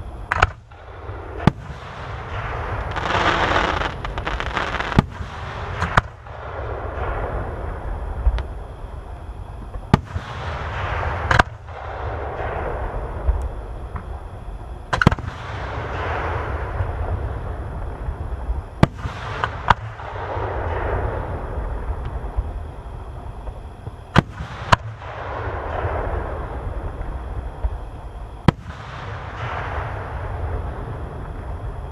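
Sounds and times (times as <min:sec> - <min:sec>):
crackling hiss of fireworks: 0:00.0 - 0:31.9
firework bangs: 0:00.3 - 0:08.3, 0:09.8 - 0:14.3, 0:14.9 - 0:22.6, 0:23.9 - 0:27.8, 0:28.4 - 0:31.6.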